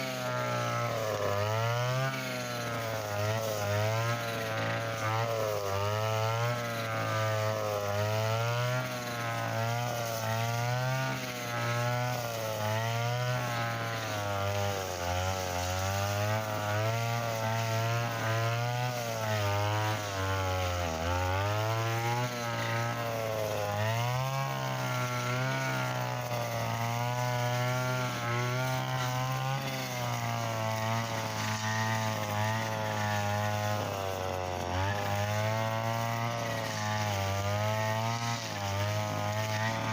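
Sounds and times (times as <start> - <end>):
brush cutter engine running hard: 0.0 - 39.9.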